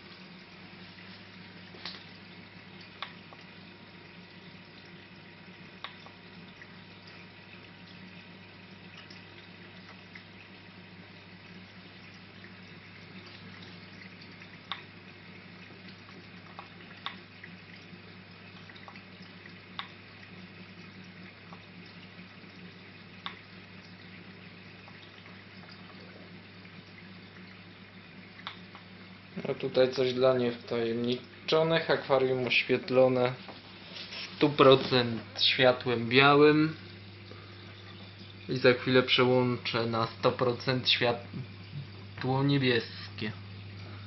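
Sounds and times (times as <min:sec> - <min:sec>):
aquarium water splashing: 0:00.0 - 0:44.0
low electrical hum: 0:00.0 - 0:44.0.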